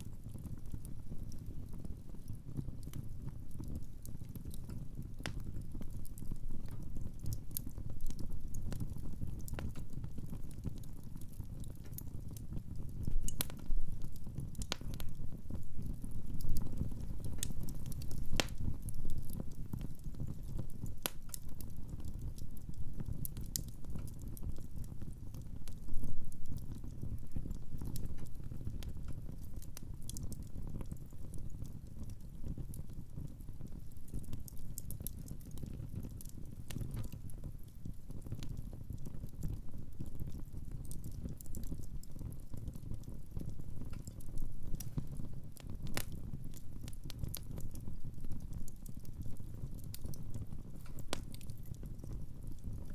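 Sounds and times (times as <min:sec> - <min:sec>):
firewood crackling and popping: 0:00.0 - 0:52.9
low rumble of flames: 0:00.0 - 0:52.9.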